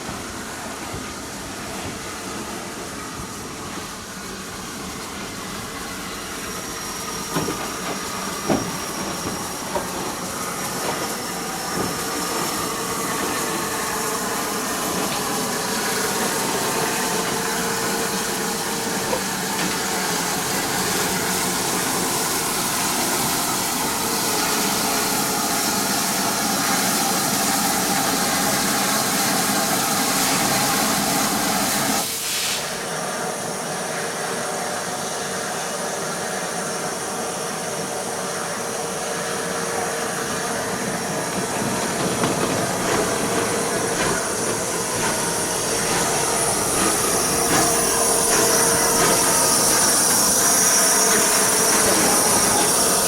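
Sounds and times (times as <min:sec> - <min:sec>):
steam hissing: 0:00.0 - 0:53.0.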